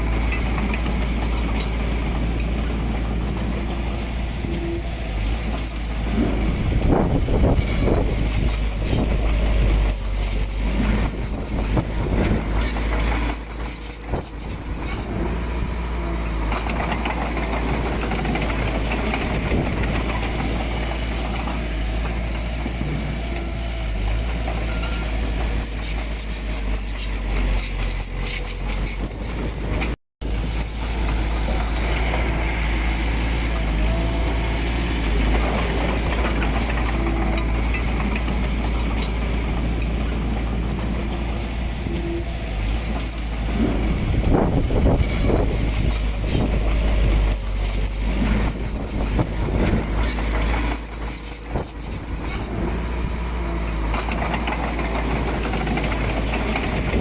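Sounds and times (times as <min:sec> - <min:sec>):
heavy diesel machinery rumbling: 0:00.0 - 0:57.0.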